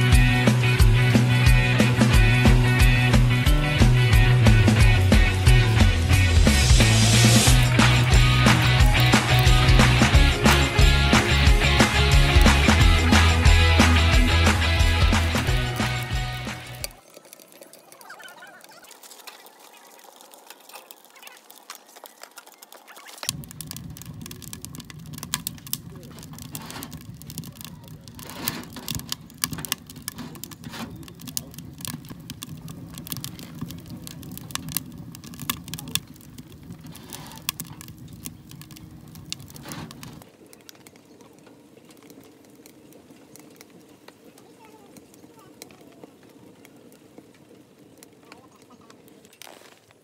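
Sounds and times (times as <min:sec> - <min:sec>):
firewood crackling and popping: 0:00.0 - 0:50.0.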